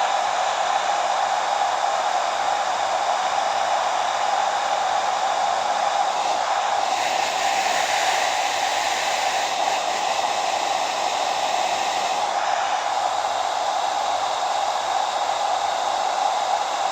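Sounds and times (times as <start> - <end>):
hair dryer running: 0.0 - 16.9.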